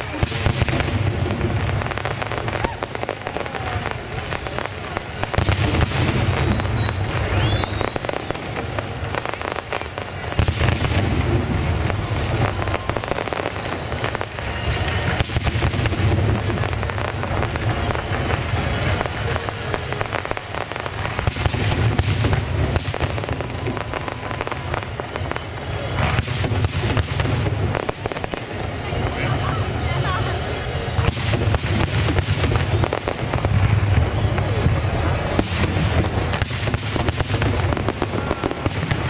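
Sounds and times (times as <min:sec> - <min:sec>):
firework bangs and crackling: 0:00.0 - 0:39.0
firework high whistle: 0:00.0 - 0:39.0.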